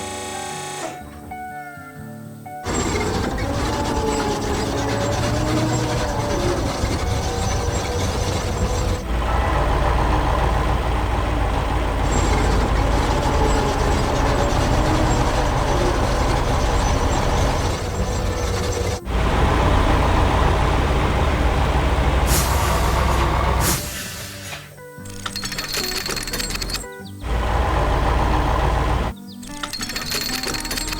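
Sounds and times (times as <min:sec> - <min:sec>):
heavy construction machine engine drone: 0:02.6 - 0:30.9.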